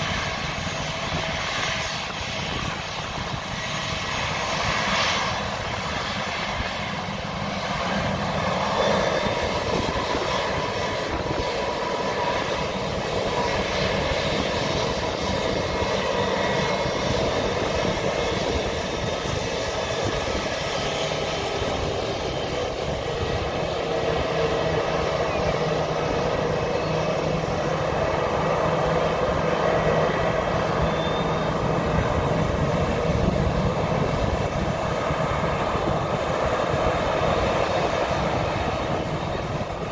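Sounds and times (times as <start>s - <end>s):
jet engines whining at low thrust: 0.0s - 39.9s.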